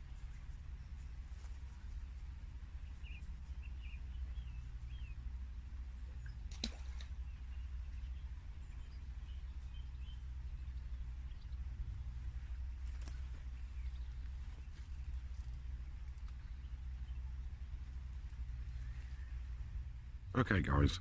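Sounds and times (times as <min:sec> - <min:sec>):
low rumble: 0:00.0 - 0:21.0
small birds chirping: 0:00.0 - 0:21.0.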